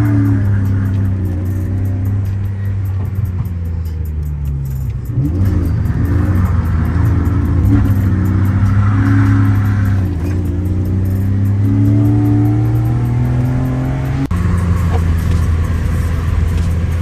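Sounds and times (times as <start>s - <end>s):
background music: 0.0s - 17.0s
car engine revving: 0.0s - 17.0s.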